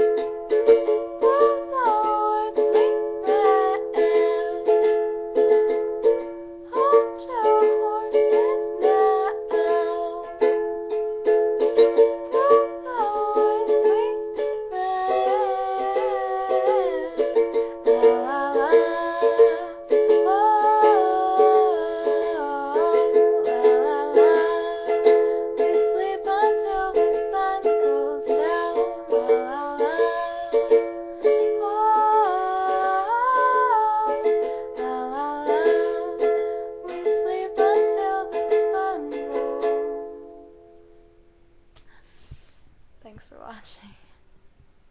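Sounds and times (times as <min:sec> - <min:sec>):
strummed ukulele chords: 0:00.0 - 0:41.8.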